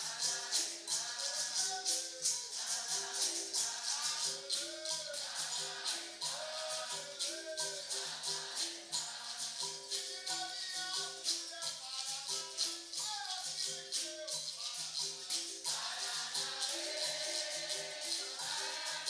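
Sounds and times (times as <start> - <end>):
people singing: 0.0 - 19.0
shaker and tambourine jingles: 0.0 - 19.0.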